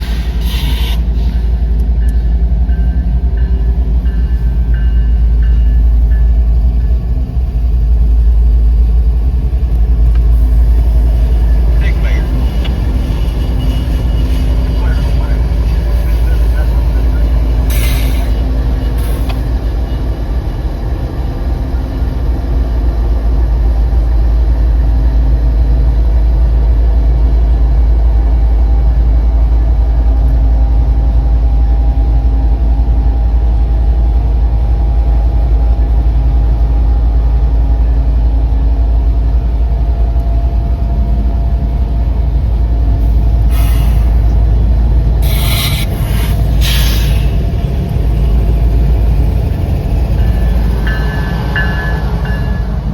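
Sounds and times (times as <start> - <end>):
freight train rumbling: 0.0 - 52.9.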